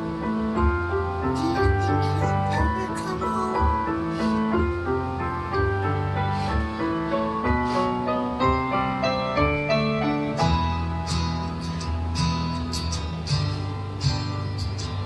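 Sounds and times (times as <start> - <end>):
piano phrase: 0.0 - 15.0
strummed acoustic guitar: 0.0 - 15.0.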